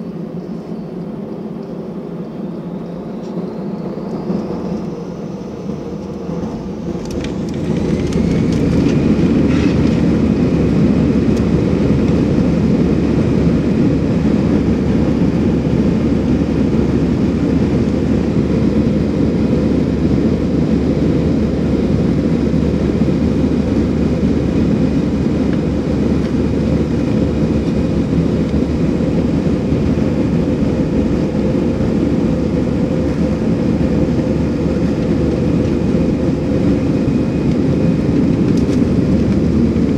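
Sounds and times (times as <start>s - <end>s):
jet engine whine: 0.0s - 39.9s
engine noise rushing: 1.9s - 39.9s.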